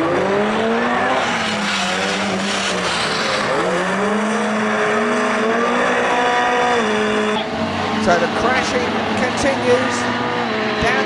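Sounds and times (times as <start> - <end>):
car engines revving: 0.0 - 11.0
engine and track noise: 0.0 - 11.0.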